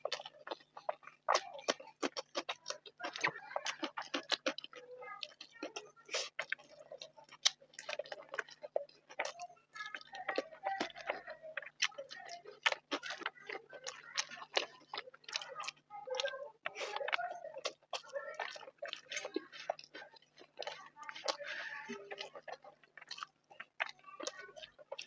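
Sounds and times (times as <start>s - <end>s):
chewing and lip smacks: 0.0s - 25.0s.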